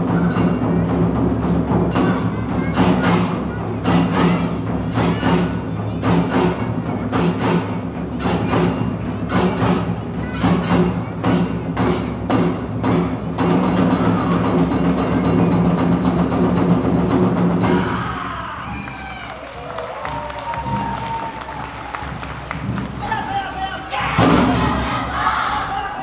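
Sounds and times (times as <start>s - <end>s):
taiko drum beating: 0.0s - 25.7s.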